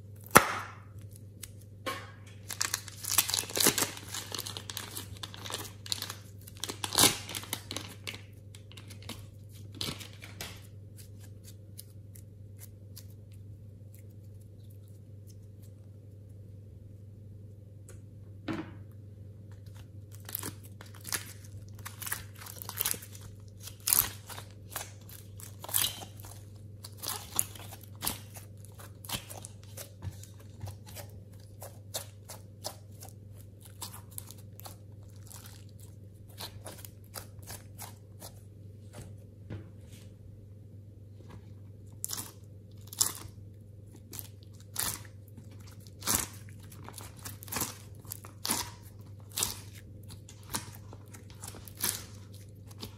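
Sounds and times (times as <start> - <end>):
steady low hum: 0.0 - 52.9
hands kneading soft clay: 2.6 - 18.2, 19.4 - 52.9.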